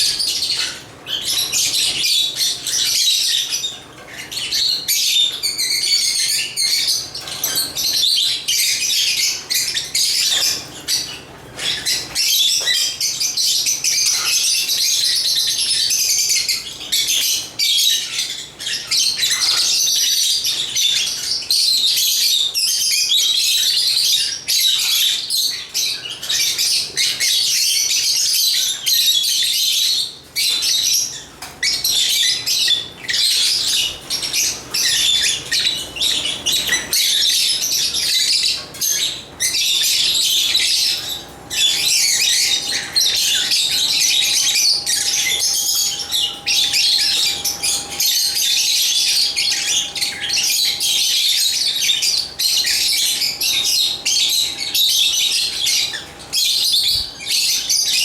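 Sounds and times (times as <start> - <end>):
lovebirds chattering and chirping: 0.0 - 58.0.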